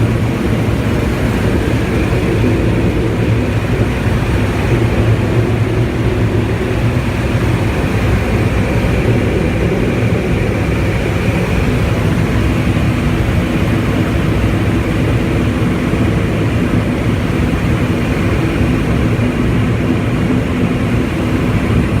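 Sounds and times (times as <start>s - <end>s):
turboprop engine droning: 0.0s - 22.0s.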